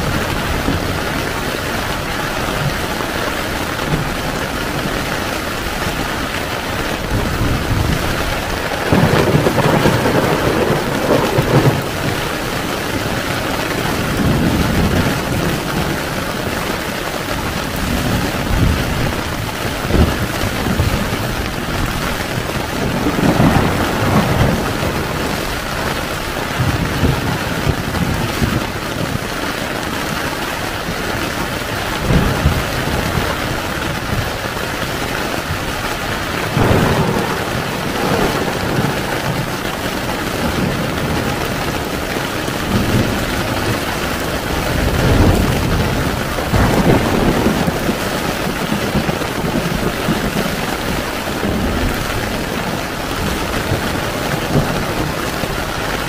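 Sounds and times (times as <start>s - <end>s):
heavy rain on a tent: 0.0s - 56.0s
thunder rumbles: 0.0s - 56.0s.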